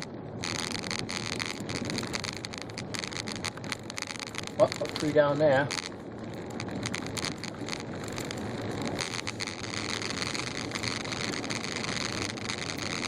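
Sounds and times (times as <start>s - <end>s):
tyre and road noise on snow: 0.0s - 13.0s.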